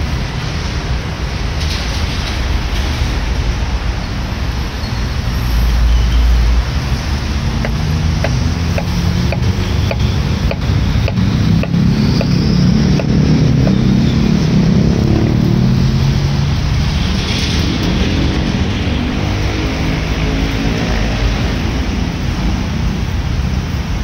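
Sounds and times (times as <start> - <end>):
background traffic rumble: 0.0 - 24.0.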